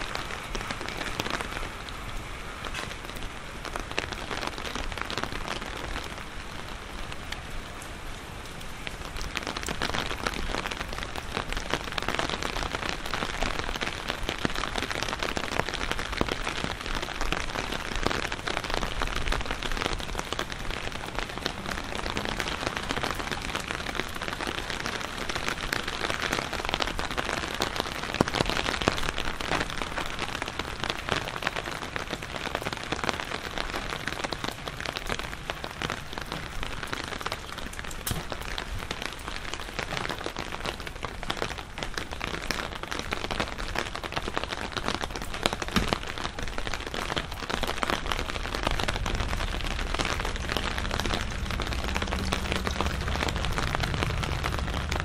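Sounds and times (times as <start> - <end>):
rain falling: 0.0 - 55.0
sharp raindrop hits: 0.0 - 55.0.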